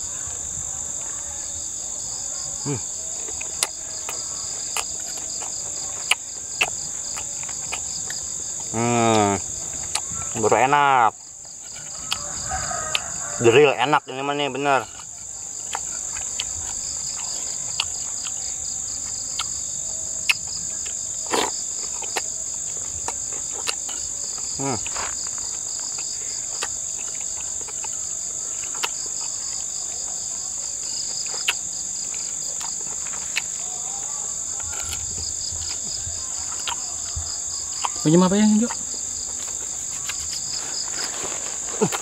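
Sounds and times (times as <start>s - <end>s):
insects chirring: 0.0s - 42.0s
pulsing insect chirp: 0.0s - 42.0s.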